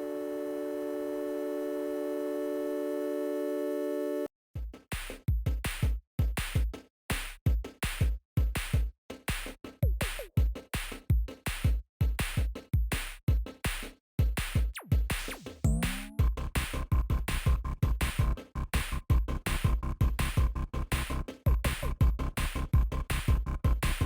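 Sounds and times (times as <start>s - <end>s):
electronic music with drum machine: 4.6s - 24.0s.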